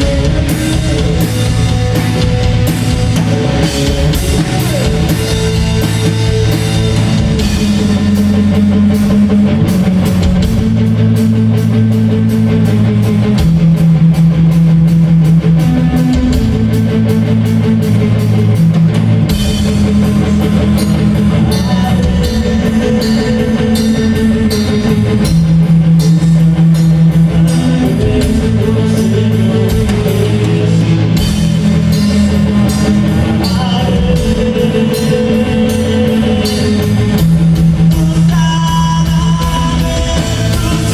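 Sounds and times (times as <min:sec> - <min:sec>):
guitar: 0:00.0 - 0:40.9
held bass notes: 0:00.0 - 0:40.9
rapid rock drums: 0:00.0 - 0:40.9.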